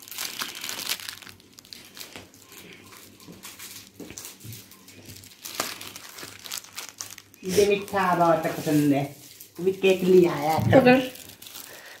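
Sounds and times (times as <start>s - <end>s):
sweet wrappers crinkling: 0.0s - 12.0s.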